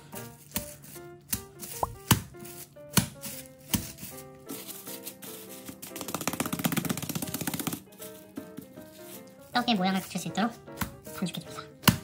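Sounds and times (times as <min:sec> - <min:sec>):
background music: 0:00.0 - 0:12.0
hands slapping dough: 0:00.2 - 0:09.4, 0:10.1 - 0:12.0.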